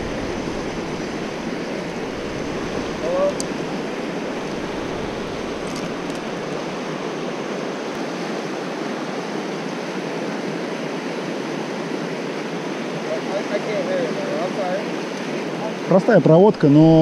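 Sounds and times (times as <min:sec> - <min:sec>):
river water rushing over rapids: 0:00.0 - 0:17.0.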